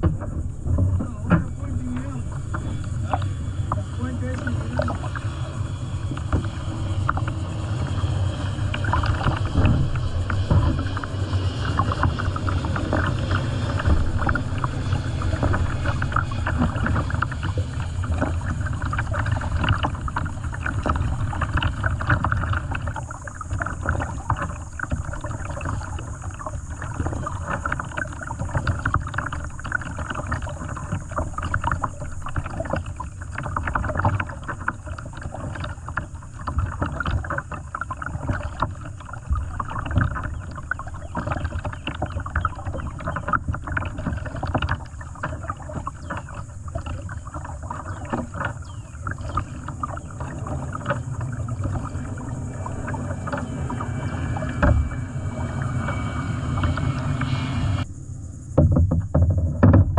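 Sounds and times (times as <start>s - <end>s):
water splashing around a kayak: 0.0s - 57.9s, 58.5s - 59.9s
steady low rumble: 0.0s - 59.2s.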